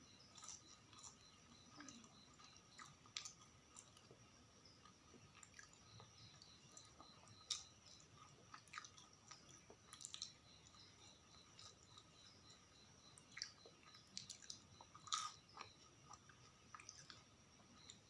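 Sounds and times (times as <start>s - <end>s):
mouth chewing food: 0.0s - 18.0s.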